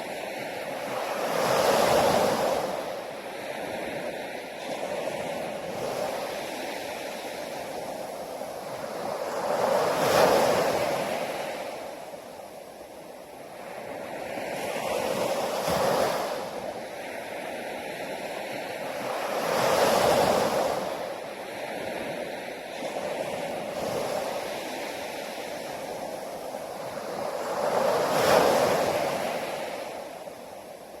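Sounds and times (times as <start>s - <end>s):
sea waves breaking on beach: 0.0s - 31.0s.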